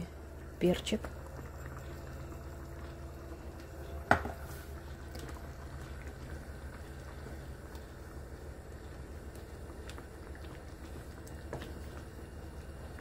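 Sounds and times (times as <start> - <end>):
low hum: 0.0 - 13.0
sauce simmering in a pan: 0.0 - 13.0.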